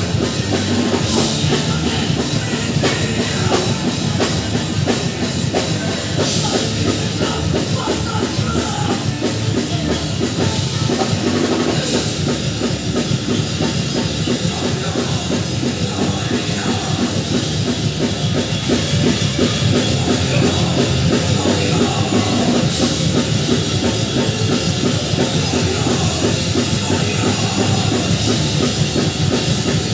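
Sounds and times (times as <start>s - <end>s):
fast drumming on drum kit: 0.0s - 29.9s
rock band playing live: 0.0s - 29.9s.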